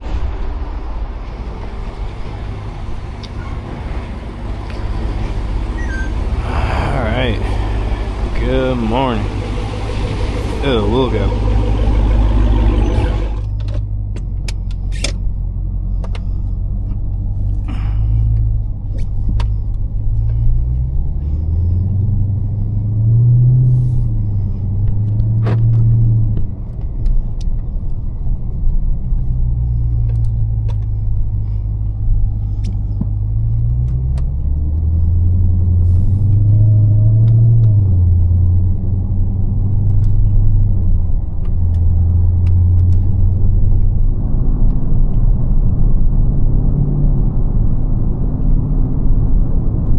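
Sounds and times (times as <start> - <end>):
car engine deep rumble: 0.0 - 49.9.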